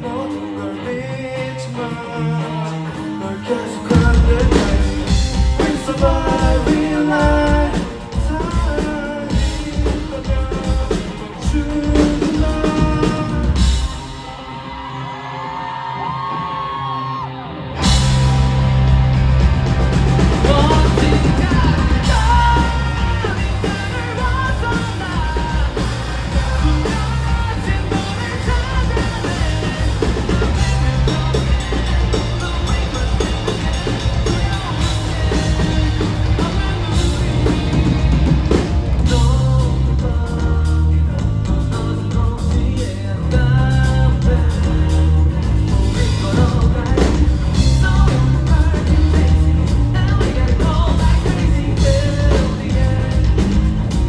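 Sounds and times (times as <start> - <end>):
person singing lead vocal: 0.0 - 18.7, 19.8 - 54.0
live rock band: 0.0 - 54.0.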